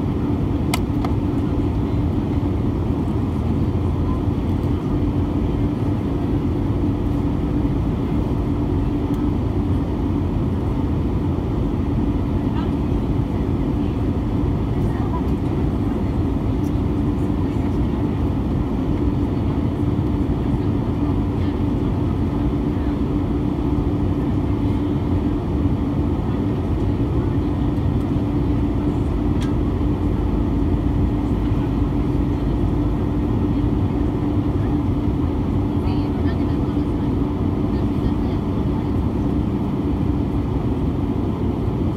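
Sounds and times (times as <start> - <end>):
jet engine drone: 0.0 - 41.9
steady low hum: 0.0 - 41.9.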